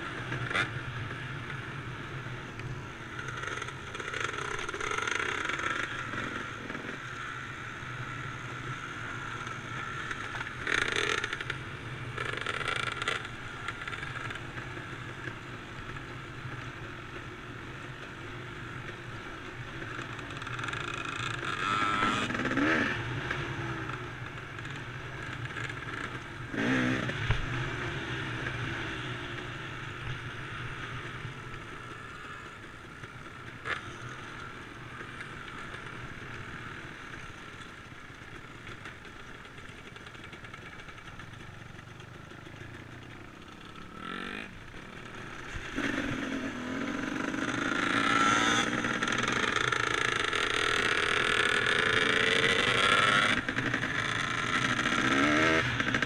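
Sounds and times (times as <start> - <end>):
dirt bike engine: 0.0 - 17.4, 18.1 - 56.0.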